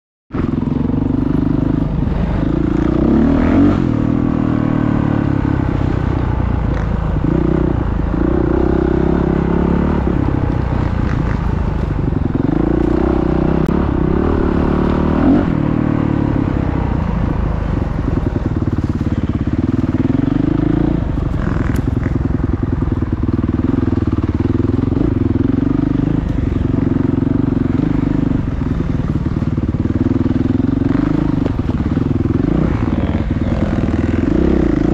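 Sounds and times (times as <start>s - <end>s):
motorcycle engines revving: 0.3s - 34.9s.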